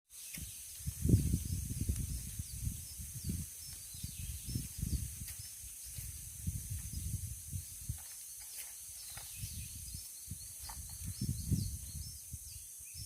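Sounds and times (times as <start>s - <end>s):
faint chirps: 0.1s - 13.0s
insect drone: 0.2s - 13.0s.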